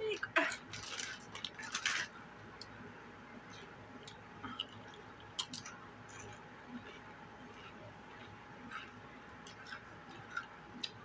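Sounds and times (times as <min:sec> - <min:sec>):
chips crunching and chewing: 0:00.4 - 0:02.7, 0:03.4 - 0:11.0.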